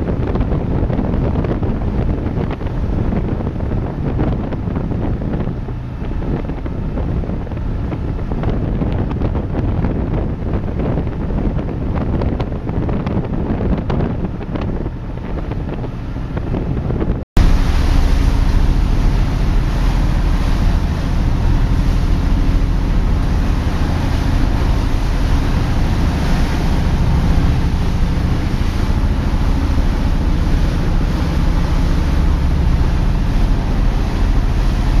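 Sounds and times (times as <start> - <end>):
ship engines low drone: 0.0 - 35.0
ship wake rushing: 0.0 - 35.0
wind buffeting microphone: 0.0 - 35.0.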